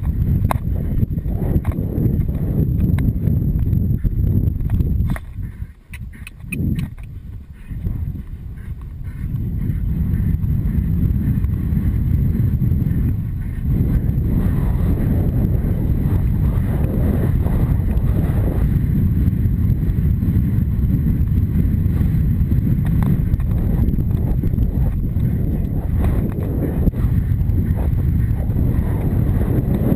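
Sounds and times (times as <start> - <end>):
horse hoofbeats: 0.0 - 29.9
wind buffeting microphone: 0.0 - 29.9.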